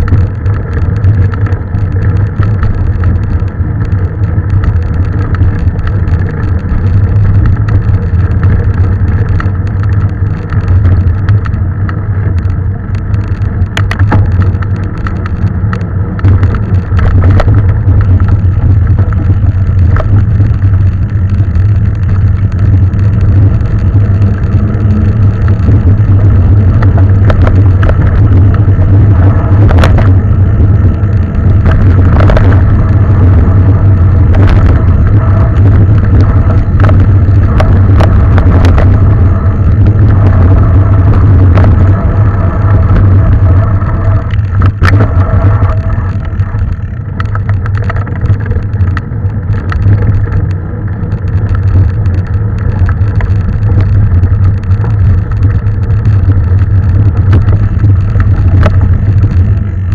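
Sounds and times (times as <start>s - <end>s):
bike clicks and rattles: 0.0s - 59.9s
mountain bike rumble on trail: 0.0s - 59.9s.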